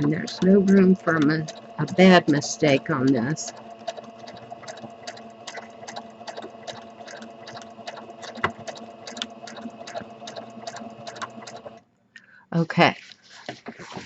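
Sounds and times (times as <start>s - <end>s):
sewing machine motor hum: 0.0s - 11.8s
sewing needle clicking: 0.0s - 11.8s.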